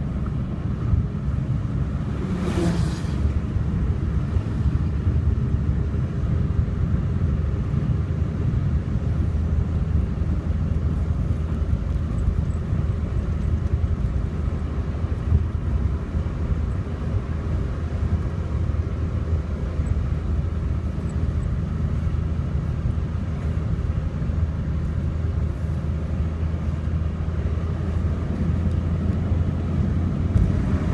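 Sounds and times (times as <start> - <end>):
car engine and tyre rumble: 0.0 - 30.9.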